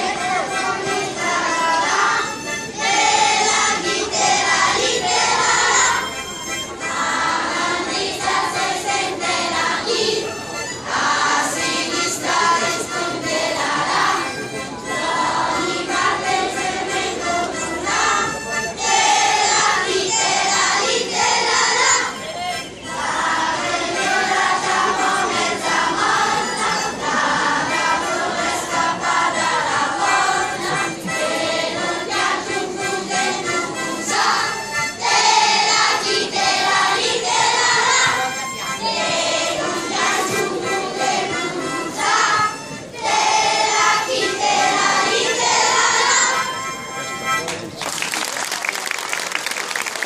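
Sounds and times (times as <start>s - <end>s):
children's choir singing: 0.0s - 46.8s.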